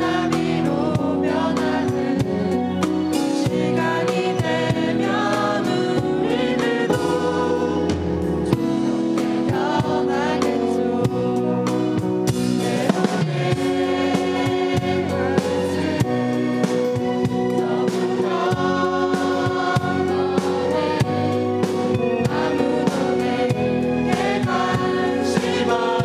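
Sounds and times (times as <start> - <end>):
mixed choir singing gospel song: 0.0 - 26.0.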